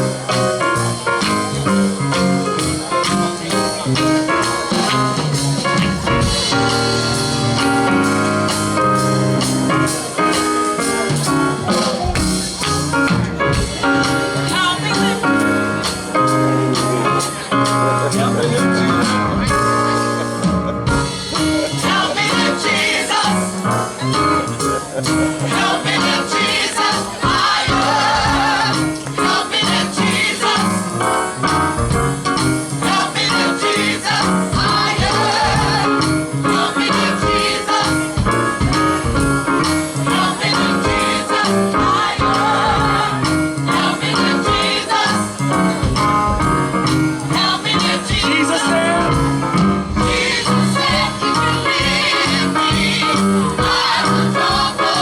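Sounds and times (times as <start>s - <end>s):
drums steady beat: 0.0s - 55.0s
gospel singers with band: 2.1s - 17.4s, 18.9s - 55.0s.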